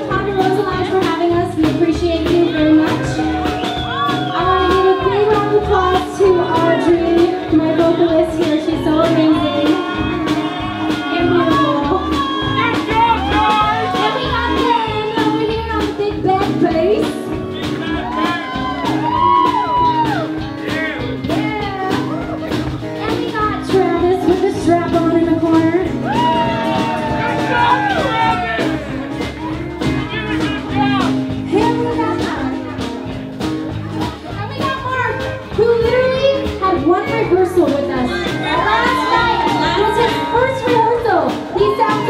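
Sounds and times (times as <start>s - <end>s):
drums keeping a steady beat: 0.0s - 42.0s
live band playing: 0.0s - 42.0s.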